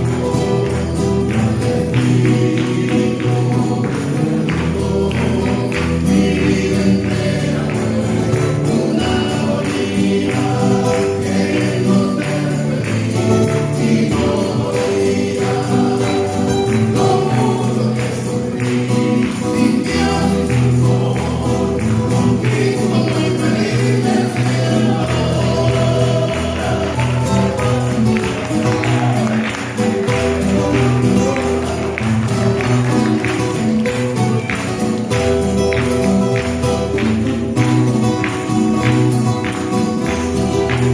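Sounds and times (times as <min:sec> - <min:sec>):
singers: 0:00.0 - 0:40.9
tambourine shaken: 0:00.0 - 0:40.9.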